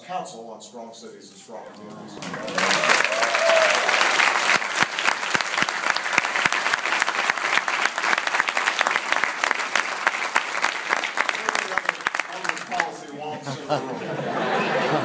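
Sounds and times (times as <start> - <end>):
audience applauding: 2.0 - 15.0.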